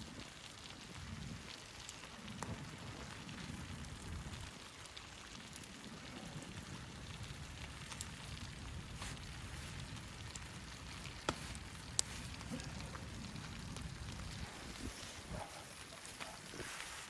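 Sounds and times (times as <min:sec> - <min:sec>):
gusting wind rumble: 0:00.0 - 0:16.8
snow hiss: 0:00.0 - 0:17.0.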